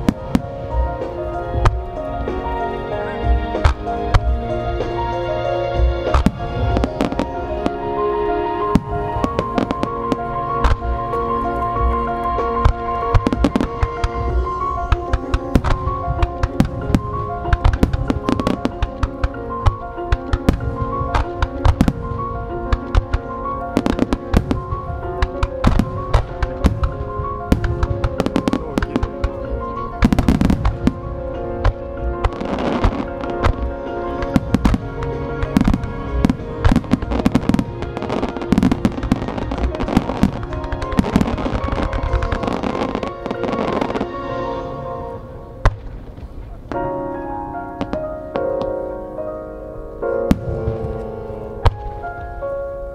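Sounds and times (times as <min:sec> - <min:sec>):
fireworks bursting: 0:00.0 - 0:47.1, 0:50.1 - 0:52.5
music: 0:00.0 - 0:52.9.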